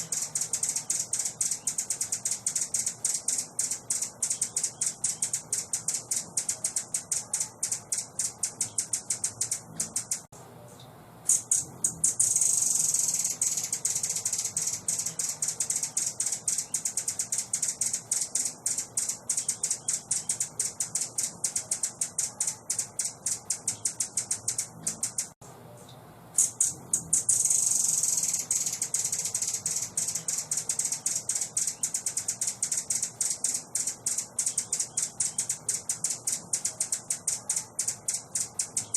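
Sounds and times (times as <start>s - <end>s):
songbird chips and trill: 0.0s - 10.3s, 11.3s - 25.4s, 26.4s - 38.9s.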